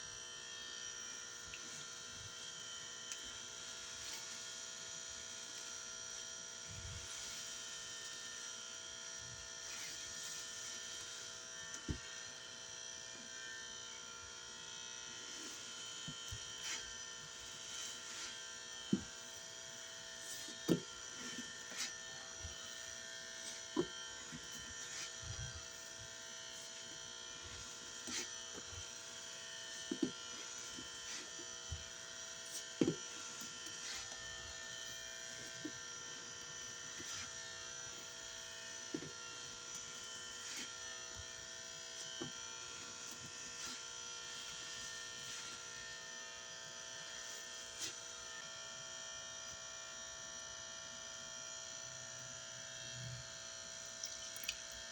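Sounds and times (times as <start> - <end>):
fluorescent light buzzing: 0.0 - 54.9.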